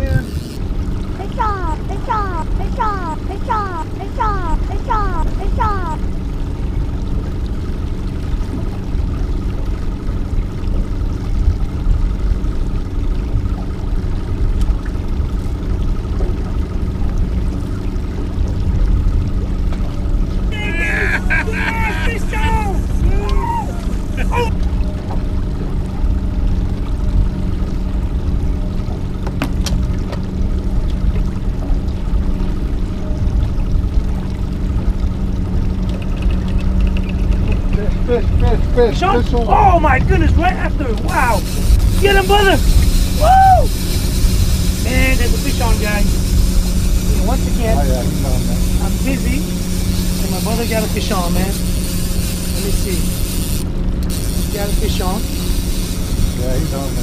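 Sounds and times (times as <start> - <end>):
faint motor whine: 0.0 - 57.0
outboard motor humming: 0.0 - 57.0
water churning: 0.0 - 57.0.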